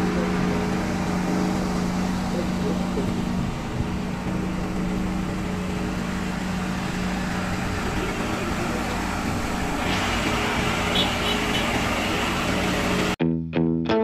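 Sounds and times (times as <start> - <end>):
road noise: 0.0 - 13.2
vehicle engine hum: 0.0 - 13.2.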